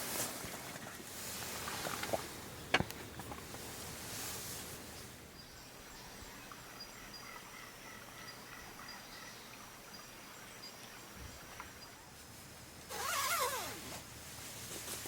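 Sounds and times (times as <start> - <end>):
steady low hiss: 0.0 - 15.0
faint insects chirping: 1.2 - 15.0.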